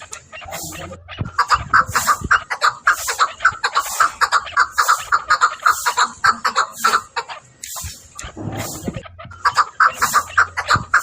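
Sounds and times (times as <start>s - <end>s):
partridge clucking calls: 0.0s - 11.0s.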